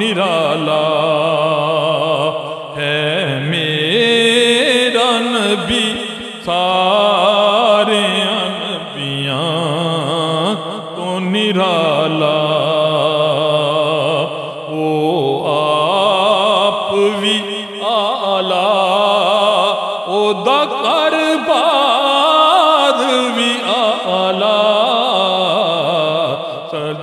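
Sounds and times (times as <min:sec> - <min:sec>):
man singing into a microphone: 0:00.0 - 0:27.0.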